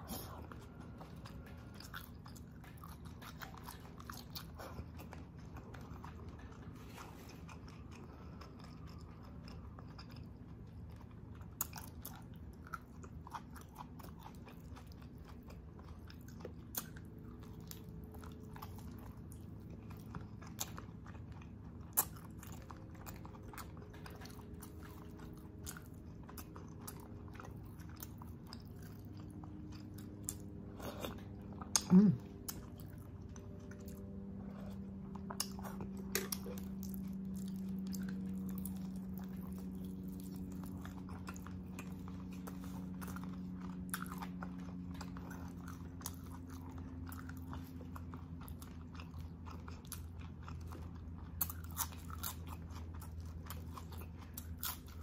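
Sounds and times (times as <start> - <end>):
chewing and wet mouth sounds: 0.0 - 55.0
faint hum: 0.0 - 55.0.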